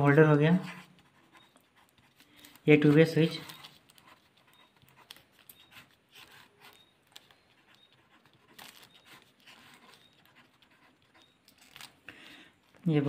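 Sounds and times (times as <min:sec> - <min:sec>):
marker pen scratching on paper: 0:00.0 - 0:12.0.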